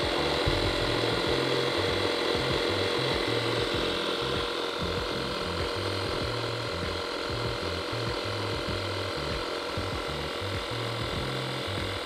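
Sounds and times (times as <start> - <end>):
tire inflator compressor running: 0.0 - 12.0.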